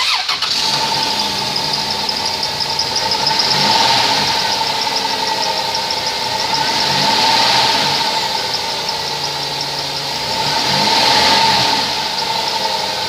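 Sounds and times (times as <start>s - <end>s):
engine idling: 0.0s - 13.0s
engine whine: 0.0s - 13.0s
fast even engine ticking: 0.0s - 13.0s.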